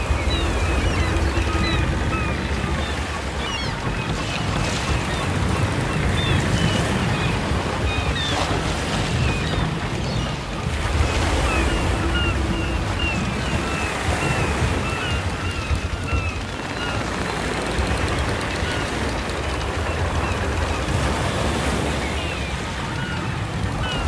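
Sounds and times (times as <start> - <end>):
ocean surf breaking: 0.0 - 24.0
seagulls calling: 0.0 - 24.0.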